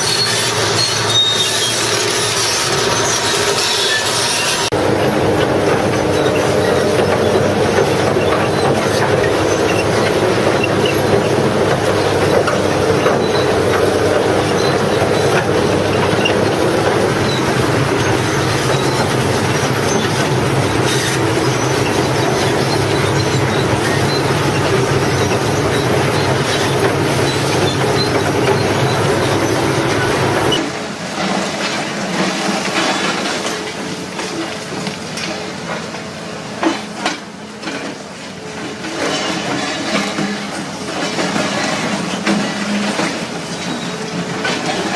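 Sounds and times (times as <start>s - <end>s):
heavy machinery running: 0.0s - 44.9s.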